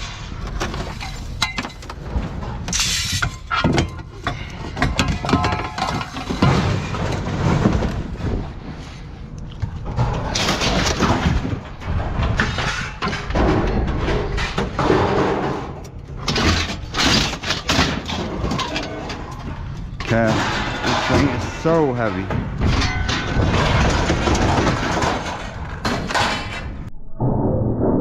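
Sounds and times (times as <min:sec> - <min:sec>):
scrap items clattering: 0:00.0 - 0:26.9.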